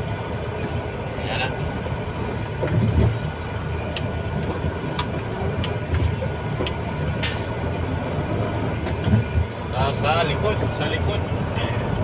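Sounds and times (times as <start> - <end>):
diesel engine running low: 0.0 - 12.0.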